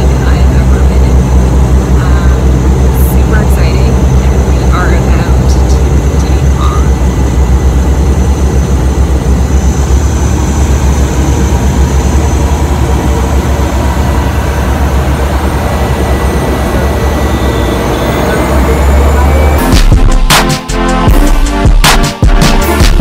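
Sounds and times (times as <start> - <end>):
faint high whine: 0.0 - 19.8
propeller plane engine drone: 0.0 - 23.0.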